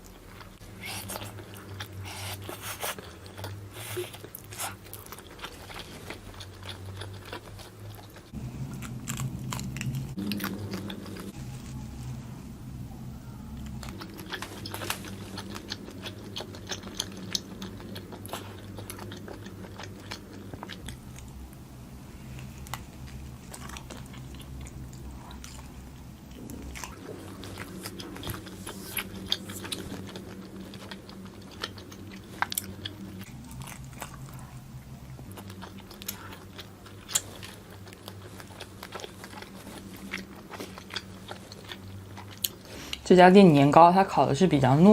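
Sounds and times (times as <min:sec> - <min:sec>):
person chewing food: 0:00.0 - 0:12.0, 0:13.5 - 0:43.0
steady low hum: 0:00.0 - 0:44.9.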